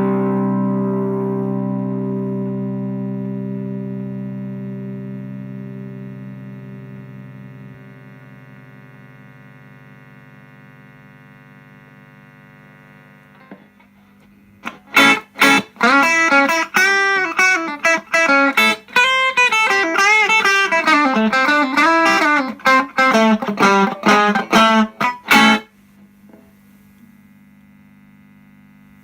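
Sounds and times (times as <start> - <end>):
overdriven electric guitar: 0.0 - 11.2, 12.2 - 26.5.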